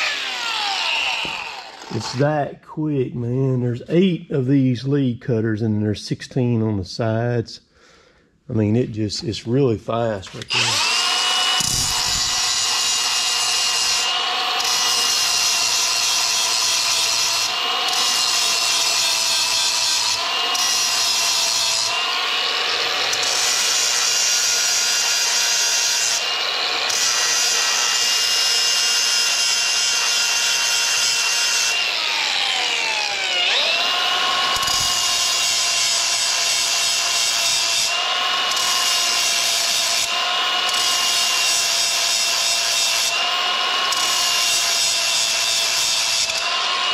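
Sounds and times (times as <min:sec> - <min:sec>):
angle grinder whine: 0:00.0 - 0:02.4, 0:10.0 - 0:46.9.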